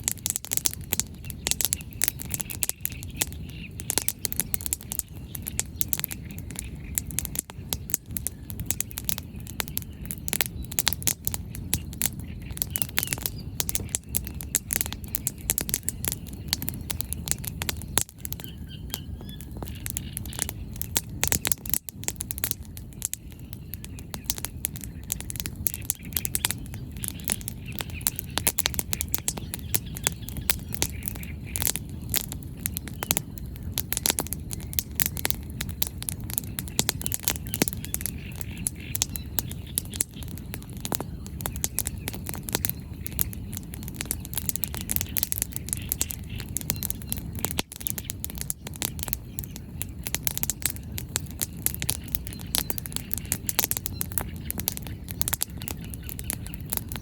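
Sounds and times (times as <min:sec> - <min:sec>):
burning firewood popping and snapping: 0:00.0 - 0:57.0
fire low rumble: 0:00.0 - 0:57.0.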